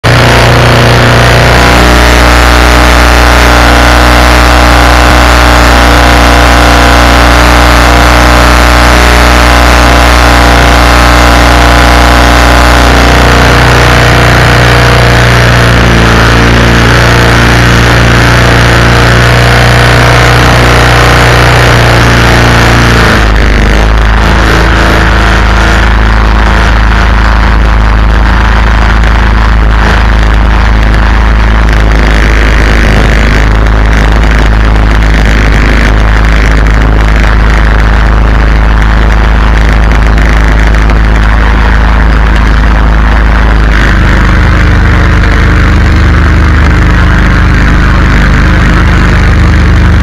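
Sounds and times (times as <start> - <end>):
engine running loud and steady: 0.0 - 50.0.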